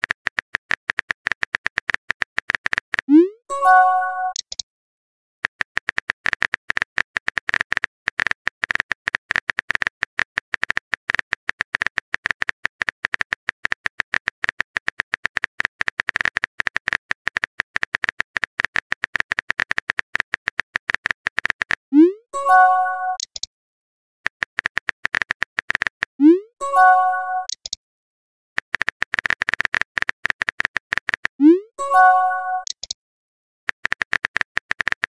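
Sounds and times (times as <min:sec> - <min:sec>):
phone keyboard typing clicks: 0:00.0 - 0:03.1, 0:03.7 - 0:04.6, 0:05.4 - 0:21.8, 0:22.5 - 0:23.5, 0:24.3 - 0:26.1, 0:26.8 - 0:27.8, 0:28.6 - 0:31.3, 0:32.0 - 0:33.0, 0:33.7 - 0:35.0.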